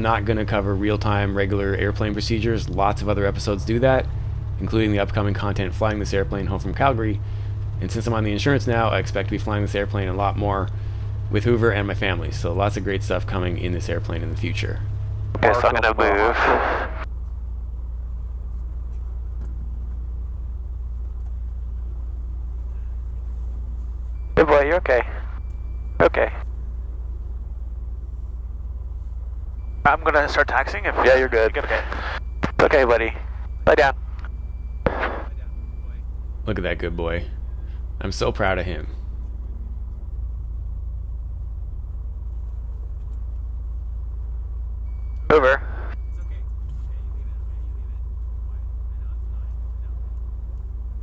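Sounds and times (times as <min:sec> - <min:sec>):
piston engine idling: 0:00.0 - 0:51.0.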